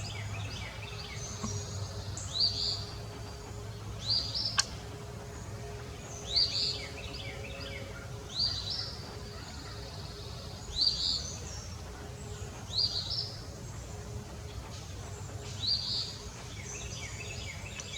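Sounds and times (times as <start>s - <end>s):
songbird singing: 0.0s - 17.9s.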